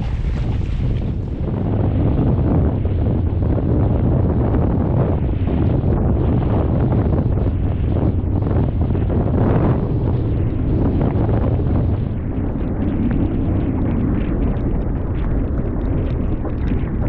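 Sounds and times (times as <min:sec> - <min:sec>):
boat motor rumble: 0:00.0 - 0:17.0
wind buffeting microphone: 0:00.0 - 0:17.0.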